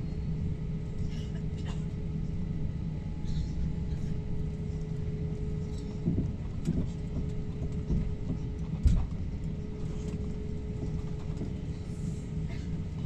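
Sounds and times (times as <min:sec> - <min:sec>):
airliner cabin engine rumble: 0:00.0 - 0:13.0
constant hum: 0:00.0 - 0:13.0.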